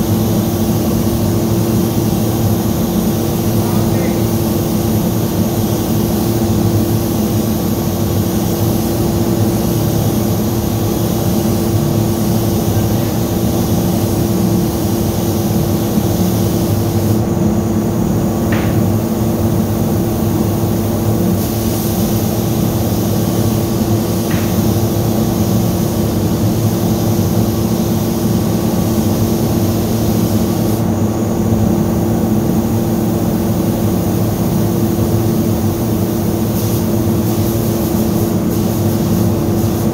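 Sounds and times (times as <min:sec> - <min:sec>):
ventilation air rushing: 0:00.0 - 0:39.9.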